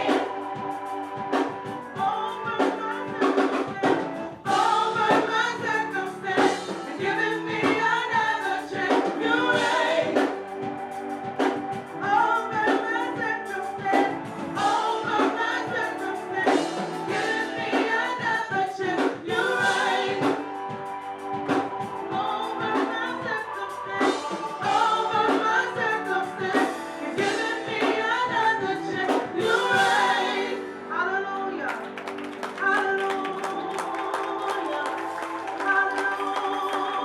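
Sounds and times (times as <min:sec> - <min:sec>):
band accompaniment: 0:00.0 - 0:37.0
gospel choir singing: 0:00.0 - 0:37.0.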